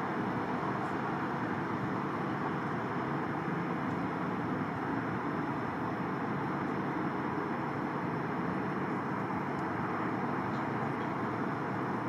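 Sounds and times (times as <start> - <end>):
distant jet engines roaring: 0.0 - 12.0.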